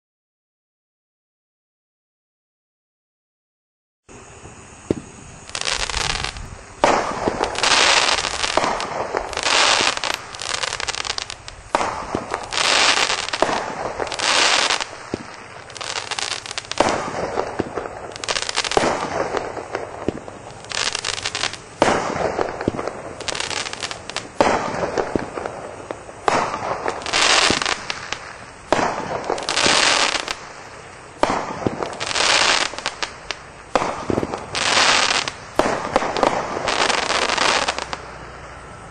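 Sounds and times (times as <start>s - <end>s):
fireworks cake firing shots: 4.8s - 38.1s.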